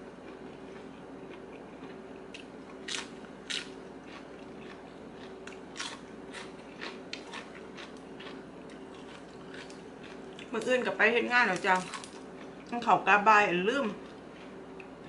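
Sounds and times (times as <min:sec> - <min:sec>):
person chewing crunchy salad: 0:00.2 - 0:10.6, 0:11.6 - 0:12.8, 0:14.0 - 0:15.0.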